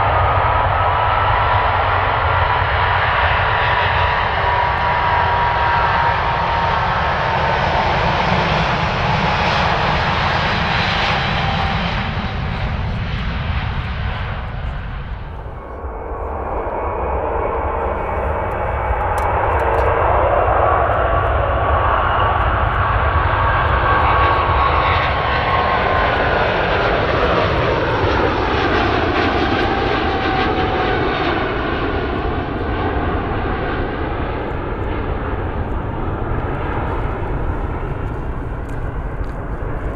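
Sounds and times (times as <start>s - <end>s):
jet engines at takeoff power: 0.0s - 39.9s.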